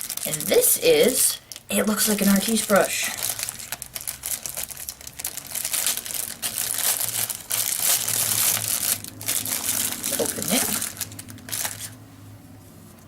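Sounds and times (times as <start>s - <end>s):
crinkly packaging crackling: 0.0s - 12.0s.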